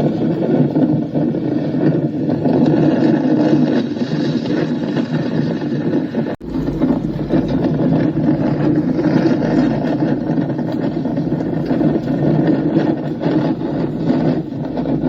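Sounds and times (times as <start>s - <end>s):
steady loud rumble: 0.0s - 15.0s.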